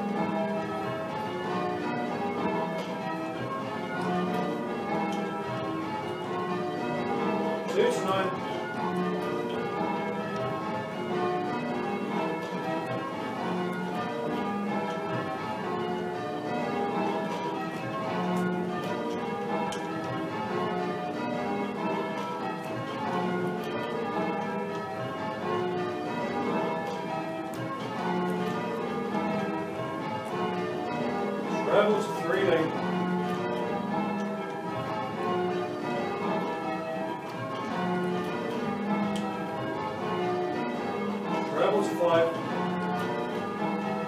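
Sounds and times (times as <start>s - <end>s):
church bells ringing: 0.0s - 44.0s.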